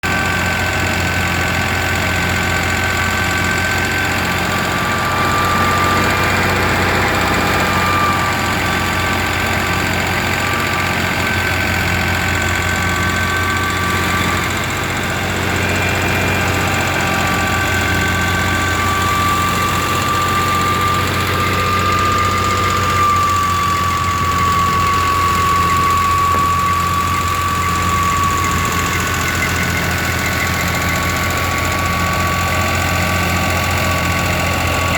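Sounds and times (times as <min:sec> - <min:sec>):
tractor diesel engine running: 0:00.0 - 0:34.9
constant high whine: 0:00.1 - 0:34.9.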